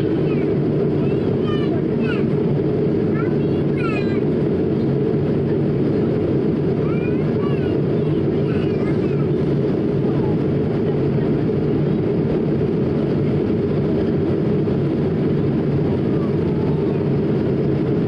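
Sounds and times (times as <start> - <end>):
airplane cabin roar: 0.0 - 18.0.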